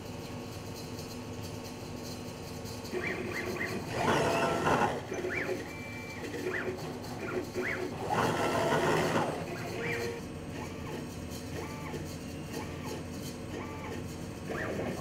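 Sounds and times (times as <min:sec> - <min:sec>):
robot motors whirring: 0:02.9 - 0:15.0.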